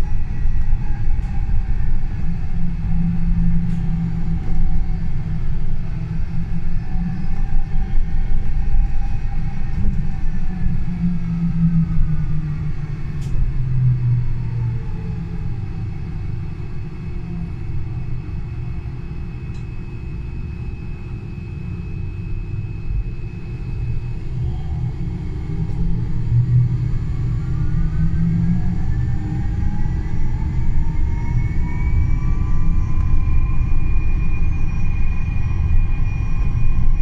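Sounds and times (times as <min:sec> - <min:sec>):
bus low rumble: 0:00.0 - 0:37.0.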